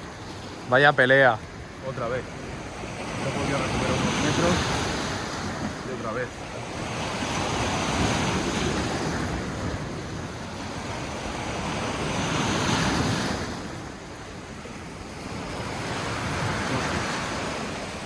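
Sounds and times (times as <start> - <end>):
sea waves breaking on shore: 0.0 - 18.0.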